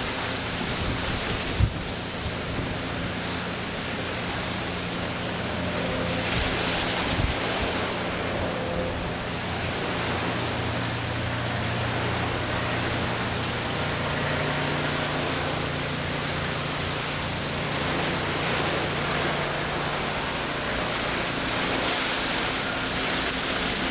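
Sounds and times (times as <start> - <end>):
hurricane wind with rain: 0.0 - 23.9.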